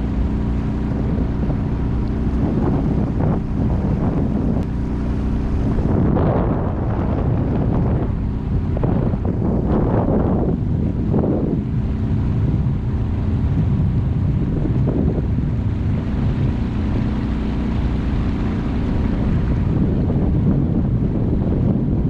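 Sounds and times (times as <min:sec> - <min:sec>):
outboard motor running: 0:00.0 - 0:22.0
wind buffeting microphone: 0:00.0 - 0:22.0.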